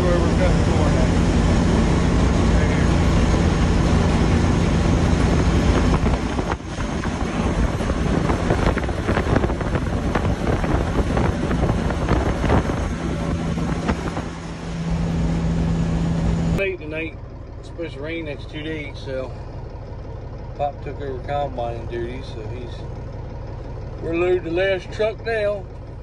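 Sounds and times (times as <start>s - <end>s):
truck engine hum from cab: 0.0s - 26.0s.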